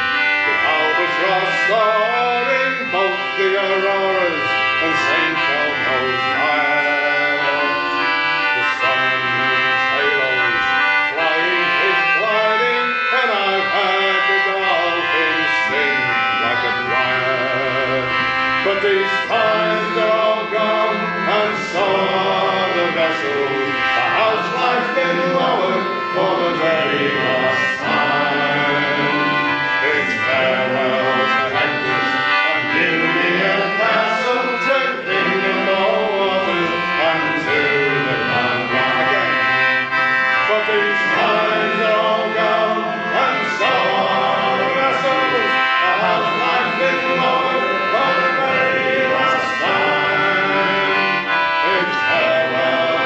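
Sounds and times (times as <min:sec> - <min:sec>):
men singing together: 0:00.0 - 0:53.0
sustained instrumental notes: 0:00.0 - 0:53.0.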